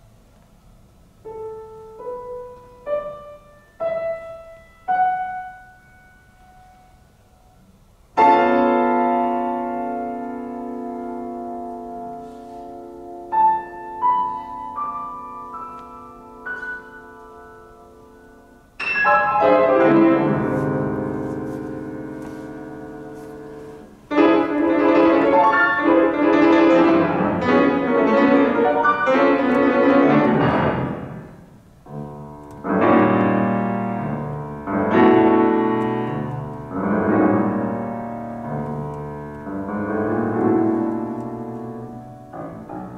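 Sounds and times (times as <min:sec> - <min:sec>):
solo grand piano: 0:00.0 - 0:42.9.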